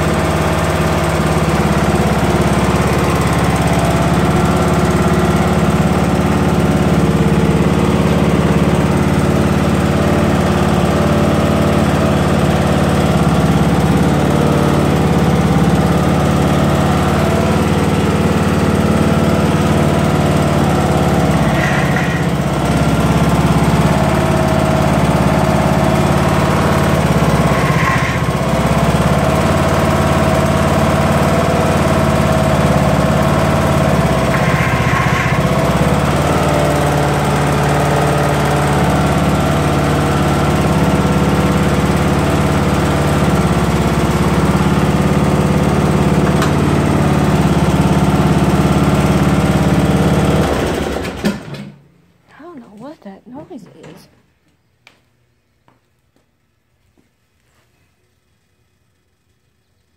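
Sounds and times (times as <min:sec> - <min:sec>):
lawn tractor engine running: 0:00.0 - 0:52.1.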